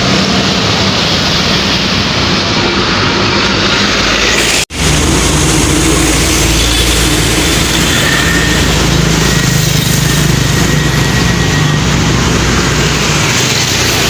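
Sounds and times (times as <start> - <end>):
bus engine droning: 0.0 - 14.0
street noise: 0.0 - 14.0.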